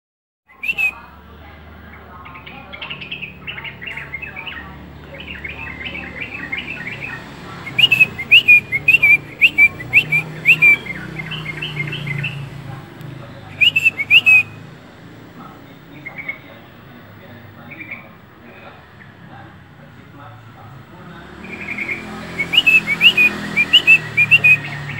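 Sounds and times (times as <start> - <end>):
bird chirping: 0.5 - 12.6, 13.4 - 14.7, 15.5 - 19.2, 21.2 - 24.9.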